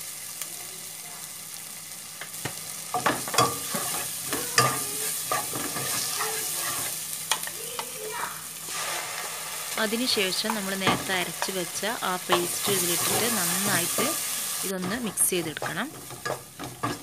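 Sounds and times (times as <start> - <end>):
food sizzling in pan: 0.0 - 17.0
spatula scraping wok: 2.9 - 17.0.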